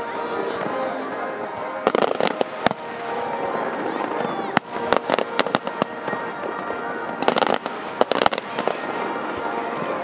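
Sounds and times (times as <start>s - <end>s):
distant fireworks reports: 0.0s - 10.0s
fireworks bursting: 0.0s - 10.0s.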